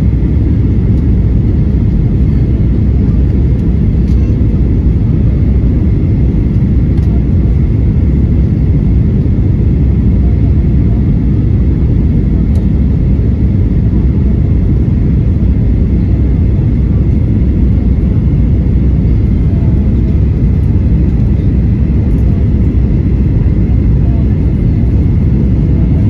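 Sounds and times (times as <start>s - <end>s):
airplane cabin engine rumble: 0.0s - 26.0s.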